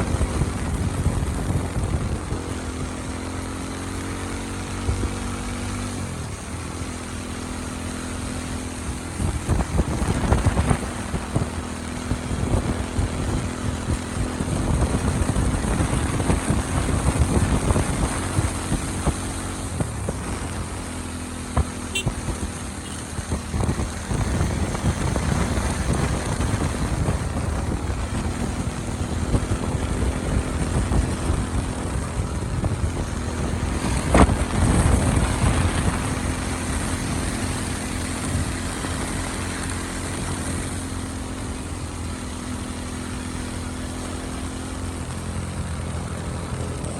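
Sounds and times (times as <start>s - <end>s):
wind rumble on microphone: 0.0s - 7.0s, 8.4s - 46.9s
motorcycle engine running: 0.0s - 46.9s.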